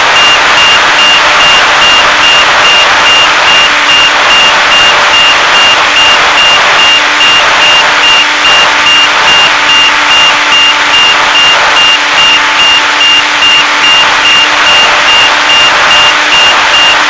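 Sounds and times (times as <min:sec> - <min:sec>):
loud static hiss: 0:00.0 - 0:17.0
short high beeps: 0:00.1 - 0:17.0.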